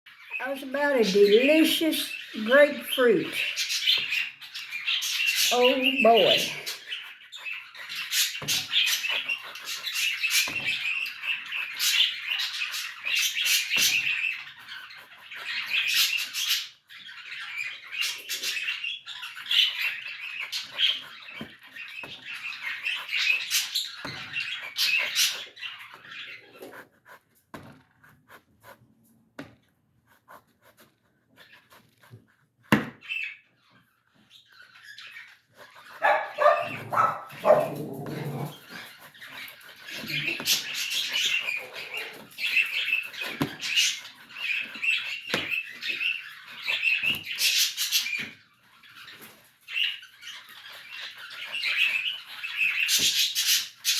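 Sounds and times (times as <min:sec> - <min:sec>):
small birds chirping: 0:00.1 - 0:53.9.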